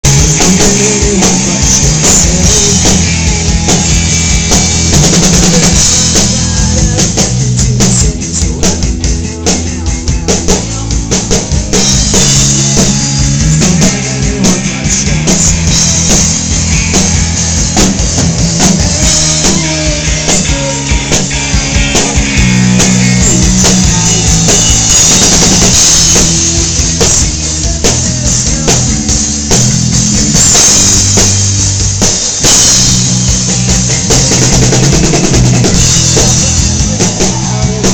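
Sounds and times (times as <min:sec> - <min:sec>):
drum kit: 0:00.0 - 0:37.9
rock band playing: 0:00.0 - 0:37.9.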